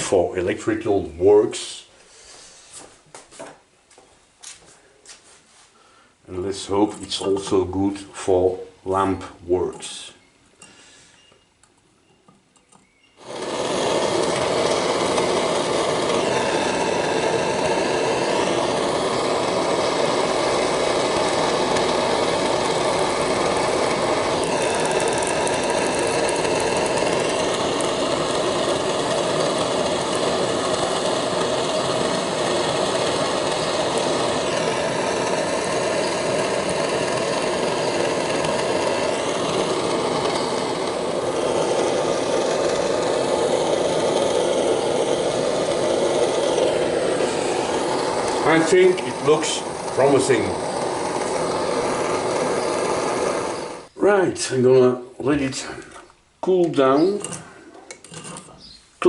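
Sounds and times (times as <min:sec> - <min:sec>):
gas torch burning: 0:00.0 - 0:03.6, 0:06.2 - 0:58.8.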